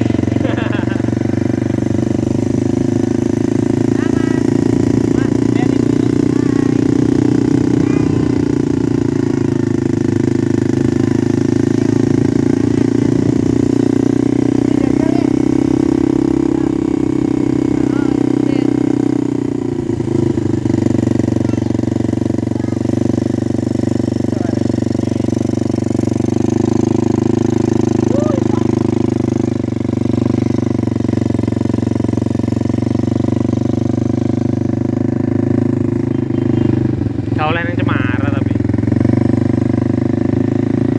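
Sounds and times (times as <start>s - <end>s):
atv engine running steadily: 0.0s - 40.9s.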